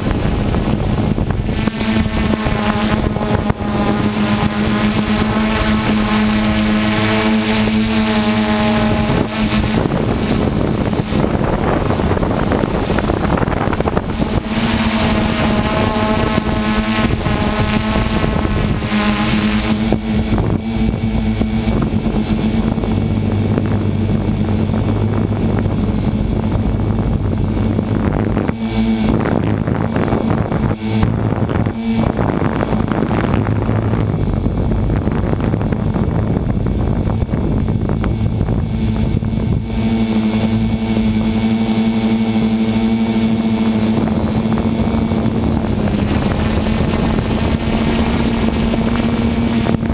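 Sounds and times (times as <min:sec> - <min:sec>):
drone motors and propellers humming: 0:00.0 - 0:49.9.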